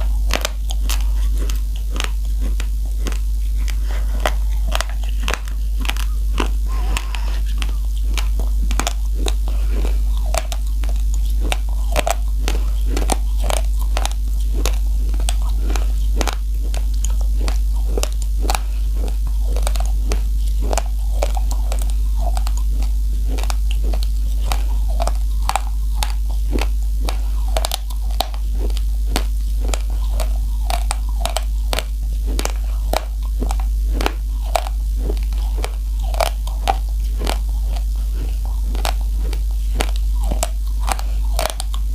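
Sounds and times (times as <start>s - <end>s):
raw rice crunched between teeth: 0.0s - 41.9s
steady low hum: 0.0s - 41.9s.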